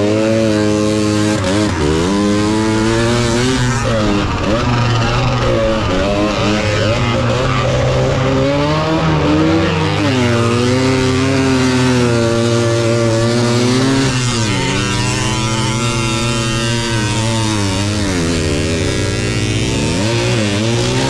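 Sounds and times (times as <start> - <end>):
moped two-stroke engine revving: 0.0 - 21.0.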